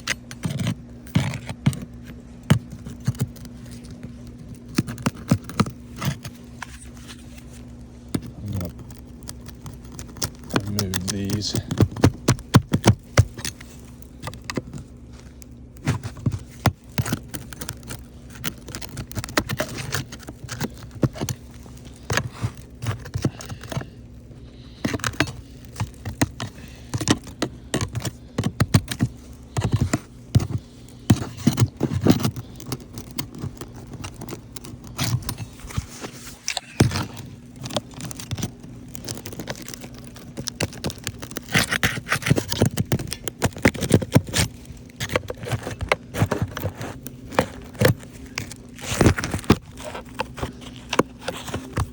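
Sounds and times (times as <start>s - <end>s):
tool prying at roof shingles: 0.0s - 6.9s, 8.1s - 15.0s, 15.8s - 51.9s.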